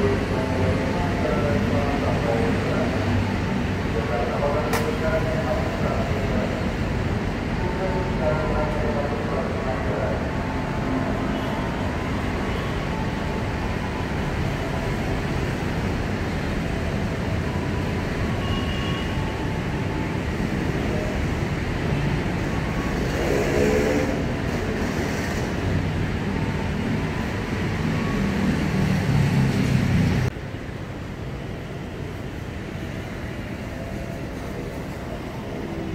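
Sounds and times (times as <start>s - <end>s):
train rumbling on rails: 0.0s - 35.9s.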